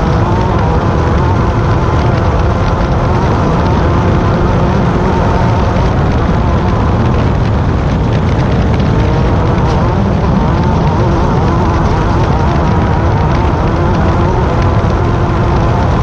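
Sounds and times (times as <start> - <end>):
buggy engine running hard: 0.0 - 16.0
knocks and rattles: 0.0 - 16.0.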